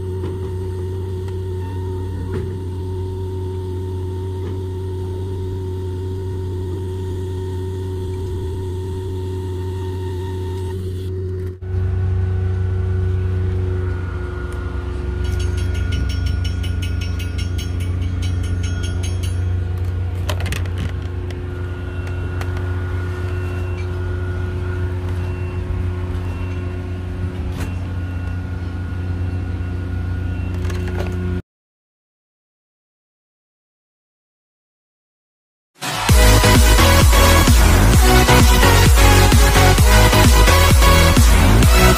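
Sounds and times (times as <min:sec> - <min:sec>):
machine humming: 0:00.0 - 0:31.2, 0:35.8 - 0:41.9.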